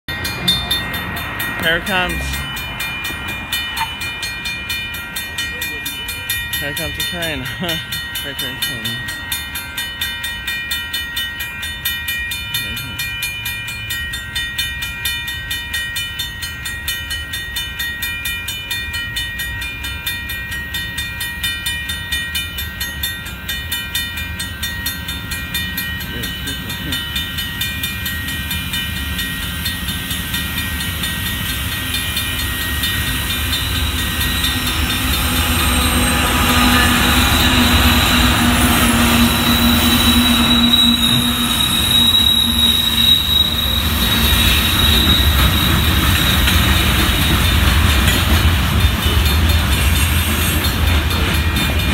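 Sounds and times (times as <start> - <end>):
diesel locomotives passing: 0.1 - 51.9
freight train rumble: 0.1 - 51.9
railroad crossing bells ringing: 0.1 - 51.9.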